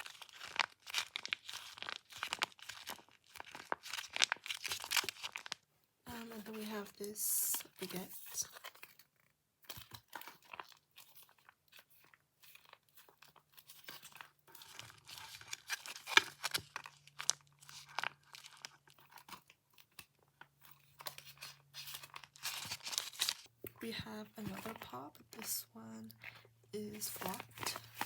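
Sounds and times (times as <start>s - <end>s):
plastic packaging crinkling: 0.0s - 5.6s, 9.8s - 23.5s, 24.4s - 28.0s.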